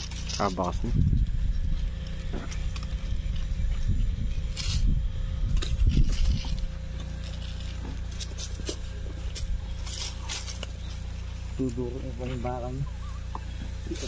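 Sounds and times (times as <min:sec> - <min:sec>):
crunches in dry undergrowth: 0:00.0 - 0:14.0
low microphone rumble: 0:00.0 - 0:14.0.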